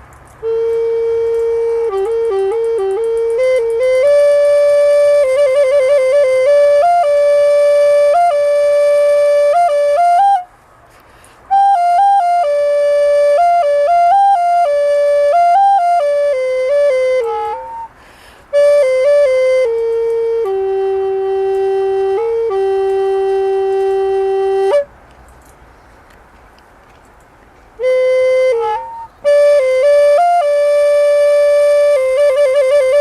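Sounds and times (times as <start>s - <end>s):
slow flute-like melody: 0.0s - 10.6s, 11.4s - 25.0s, 27.7s - 33.0s.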